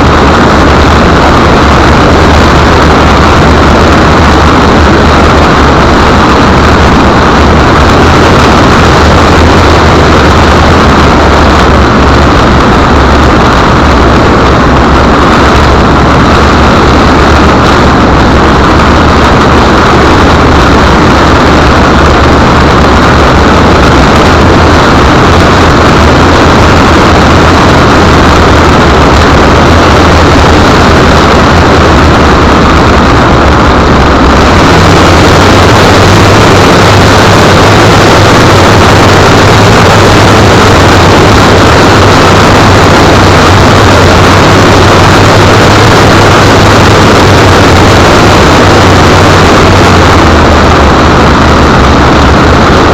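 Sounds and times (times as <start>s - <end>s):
low hum: 0.0s - 52.9s.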